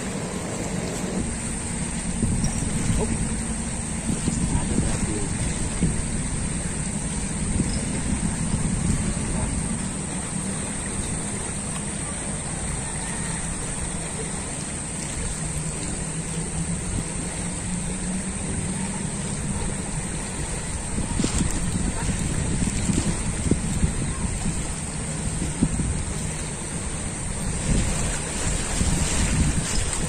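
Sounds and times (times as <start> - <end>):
fast-flowing river rushing: 0.0 - 30.0.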